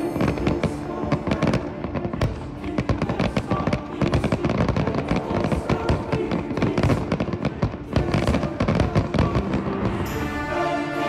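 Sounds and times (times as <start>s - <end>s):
fireworks bursting and crackling: 0.0s - 10.8s.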